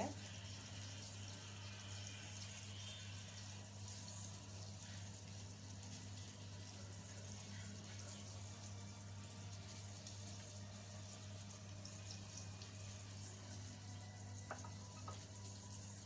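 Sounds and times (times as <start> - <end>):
offal sizzling in oil: 0.0 - 16.0.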